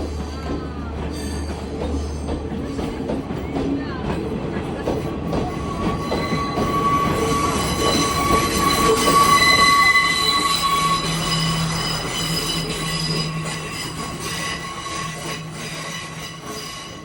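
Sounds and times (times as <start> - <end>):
rumble of train carriages: 0.0 - 17.0
train wheels squealing on rails: 0.0 - 17.0.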